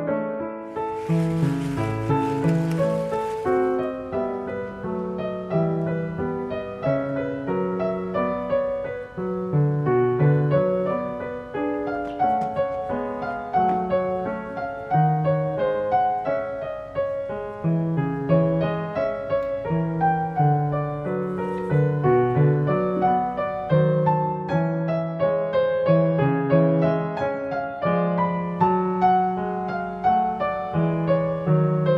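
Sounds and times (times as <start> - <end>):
gentle piano music: 0.0 - 31.9.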